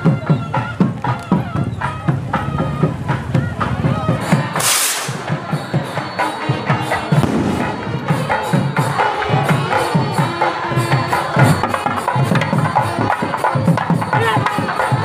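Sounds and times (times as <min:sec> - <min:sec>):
percussion music with fast beat: 0:00.0 - 0:15.0
procession crowd: 0:00.0 - 0:15.0.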